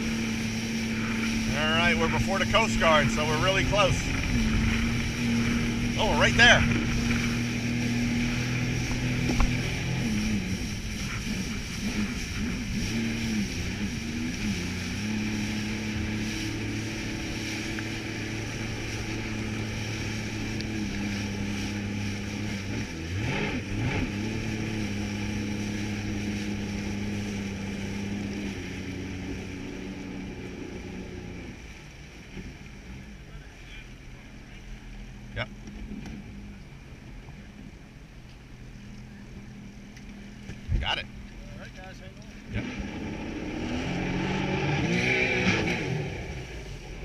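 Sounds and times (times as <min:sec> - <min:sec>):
jet ski engine running: 0:00.0 - 0:47.0.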